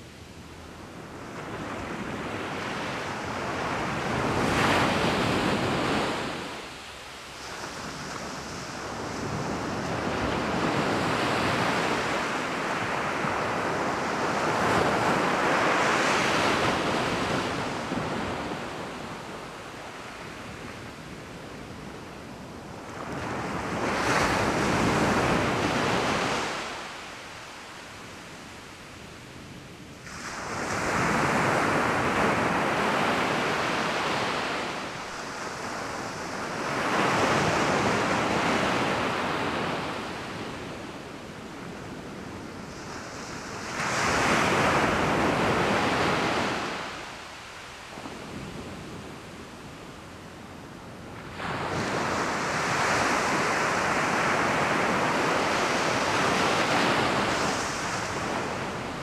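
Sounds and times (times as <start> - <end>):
waves washing up a beach: 0.0 - 59.0.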